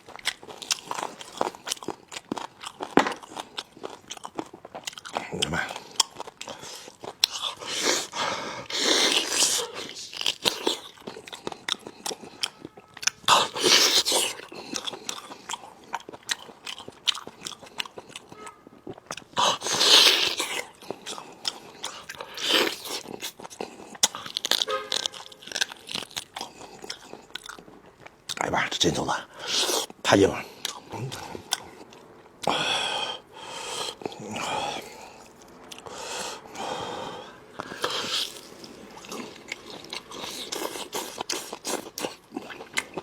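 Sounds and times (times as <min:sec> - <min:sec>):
crunching and chewing: 0:00.0 - 0:43.0.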